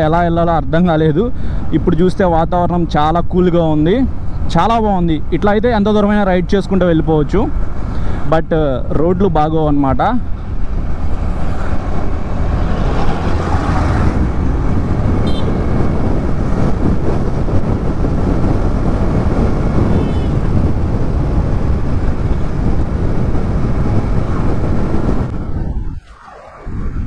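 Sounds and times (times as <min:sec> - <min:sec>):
wind and road rush: 0:00.0 - 0:27.0.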